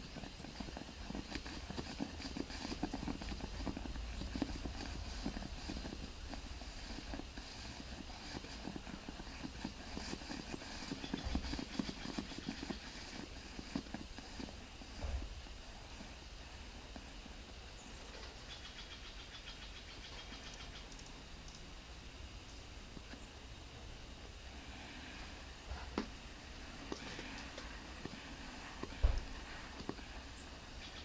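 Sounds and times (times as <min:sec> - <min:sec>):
vaporizer crackling and popping: 0:00.0 - 0:18.4, 0:20.4 - 0:23.4, 0:24.1 - 0:31.0
low steady hum: 0:00.0 - 0:31.0.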